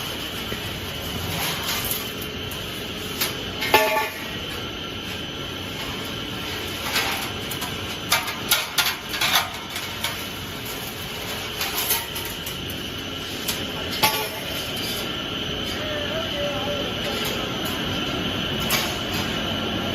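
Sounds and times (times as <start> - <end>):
machine whirr with high whine: 0.0 - 19.9.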